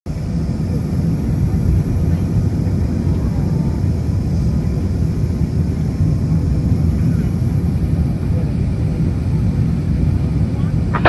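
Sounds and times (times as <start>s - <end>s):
aircraft cabin engine rumble: 0.1s - 11.0s.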